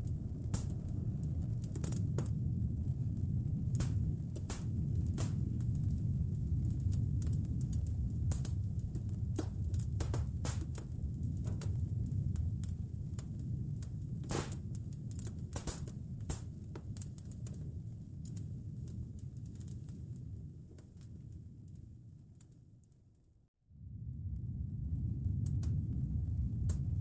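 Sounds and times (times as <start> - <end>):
wood fire crackling and popping: 0.0 - 23.0, 25.2 - 27.0
low rumble of fire and wind: 0.0 - 27.0.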